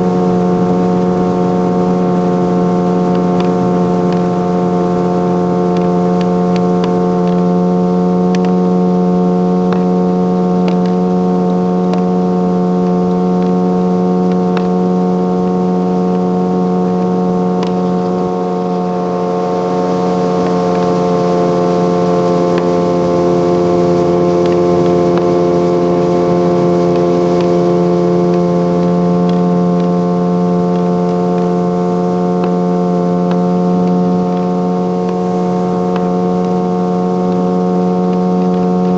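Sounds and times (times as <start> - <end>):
motorboat engine droning: 0.0 - 38.9.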